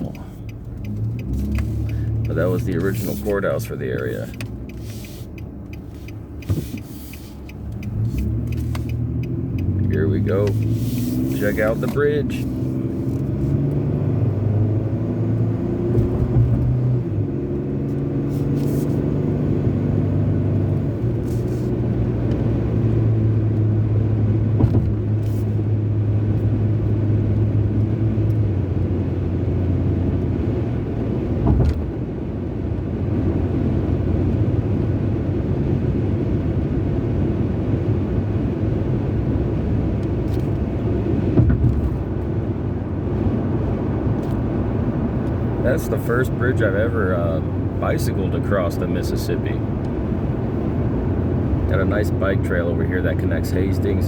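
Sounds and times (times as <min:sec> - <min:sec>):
car engine and tyre drone: 0:00.0 - 0:54.0.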